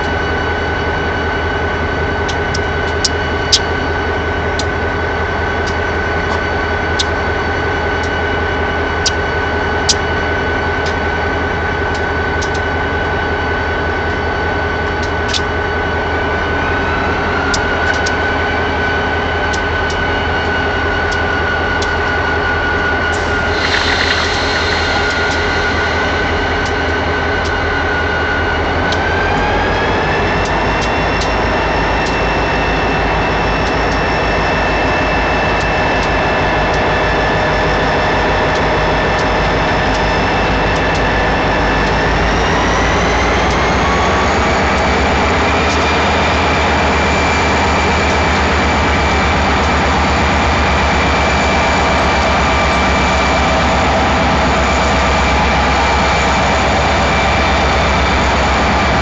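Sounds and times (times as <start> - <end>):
diesel locomotive engine running: 0.0 - 59.0
turbocharger whine: 0.0 - 59.0.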